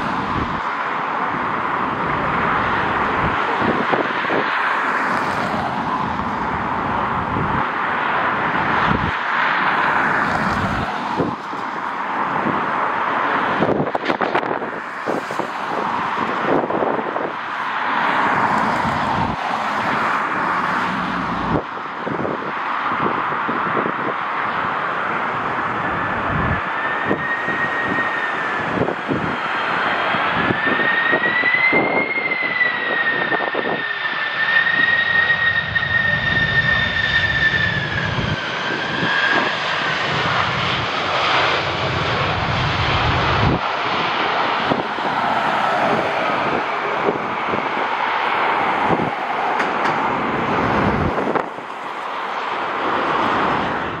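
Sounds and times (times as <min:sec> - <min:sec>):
jet engines roaring: 0:00.0 - 0:54.0
wavering high engine whine: 0:00.0 - 0:54.0.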